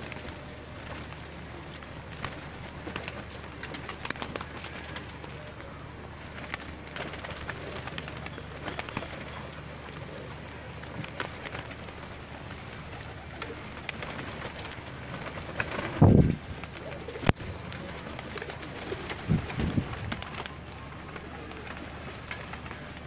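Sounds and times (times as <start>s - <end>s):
pecking clicks on ground: 0.0s - 23.0s
pigeons cooing: 0.0s - 23.0s
wing flutters: 0.0s - 23.0s.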